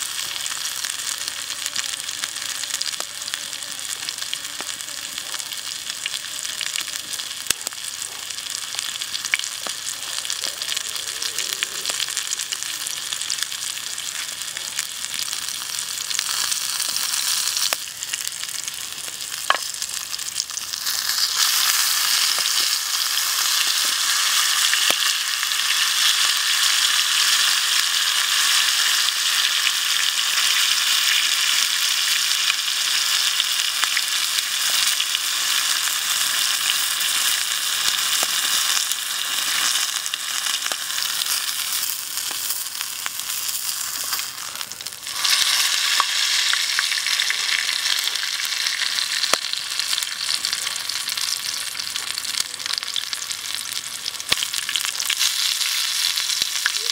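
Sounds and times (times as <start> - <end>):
chicken wings deep-frying in oil: 0.0 - 56.9.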